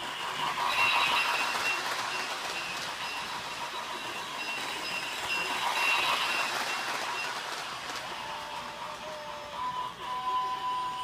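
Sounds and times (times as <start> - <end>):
toy train hiss: 0.0 - 11.0.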